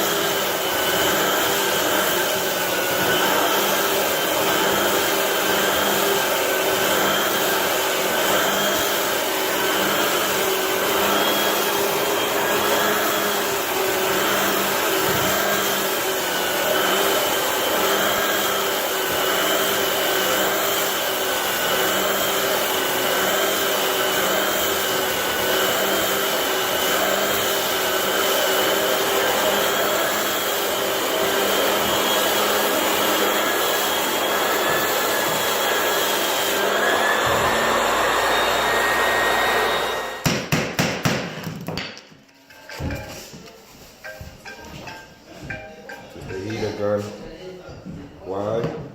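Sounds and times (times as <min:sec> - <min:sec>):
floor sanding machine running: 0:00.0 - 0:41.7, 0:42.3 - 0:47.4.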